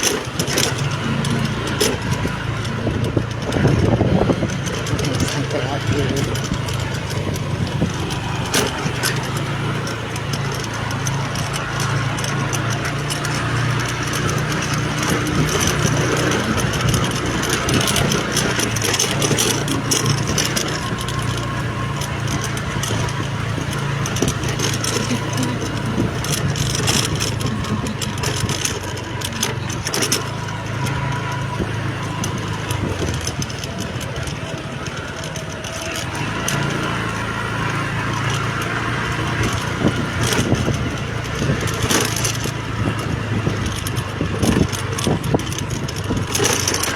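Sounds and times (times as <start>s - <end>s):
road and wind noise: 0.0s - 46.9s
vehicle engine hum: 0.0s - 46.9s.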